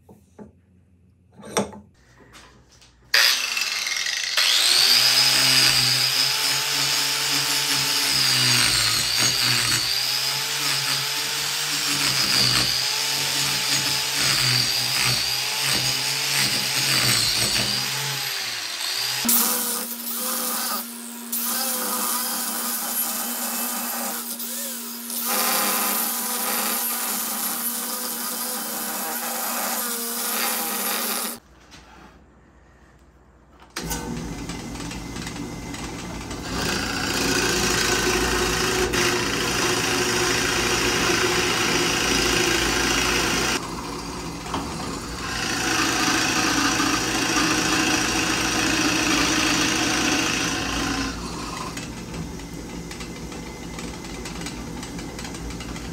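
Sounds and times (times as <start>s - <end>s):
angle grinder cutting wood: 3.1s - 31.4s, 33.8s - 55.9s
drill press boring into wood: 3.2s - 31.4s, 33.8s - 55.9s.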